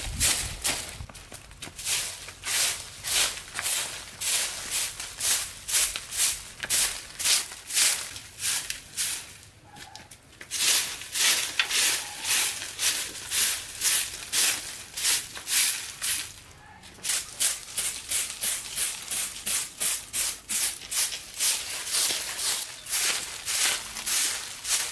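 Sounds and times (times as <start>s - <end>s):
broom sweeping leaves on dirt: 0.0s - 24.9s.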